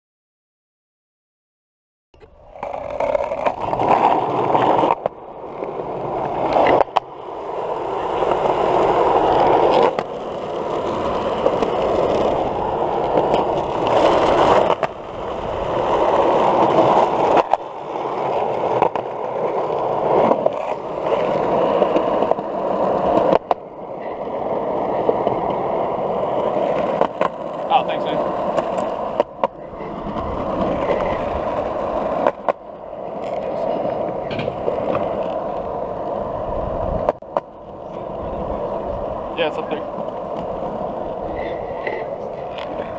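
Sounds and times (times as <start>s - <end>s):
skateboard wheels rolling on concrete: 2.2s - 42.9s.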